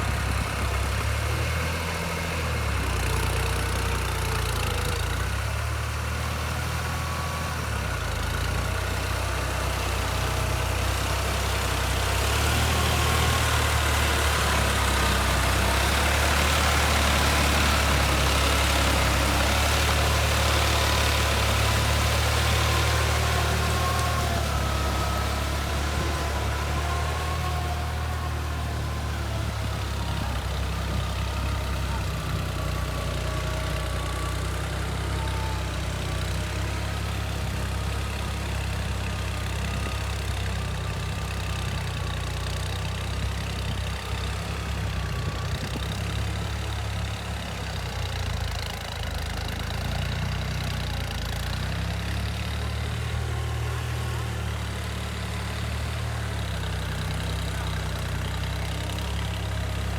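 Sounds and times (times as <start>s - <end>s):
engine rumbling: 0.0s - 59.9s.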